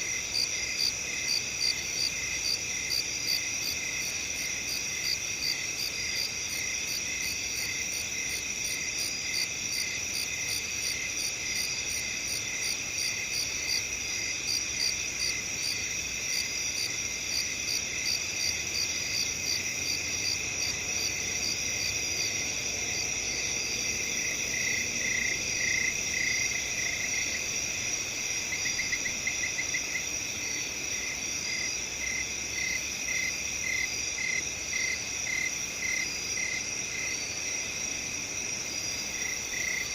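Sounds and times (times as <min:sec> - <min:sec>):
crickets chirping: 0:00.0 - 0:39.9
crickets trilling: 0:00.0 - 0:39.9.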